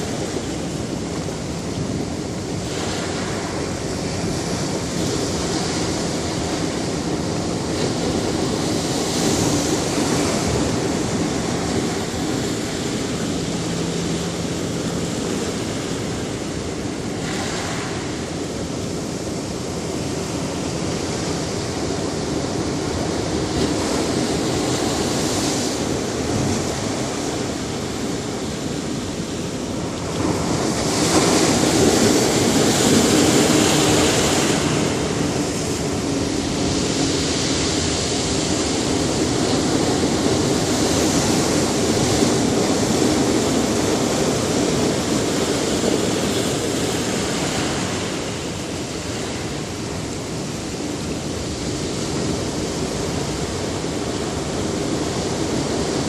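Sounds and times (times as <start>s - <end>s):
ocean surf washing onto beach: 0.0s - 56.0s.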